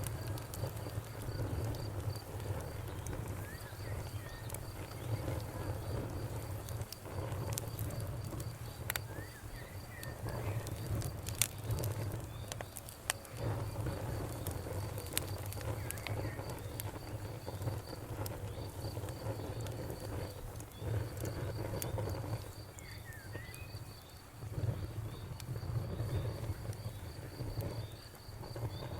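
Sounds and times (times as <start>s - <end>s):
fire pops and snaps: 0.0s - 28.9s
low rumble of flames: 0.0s - 28.9s
wood fire crackling: 0.0s - 28.9s.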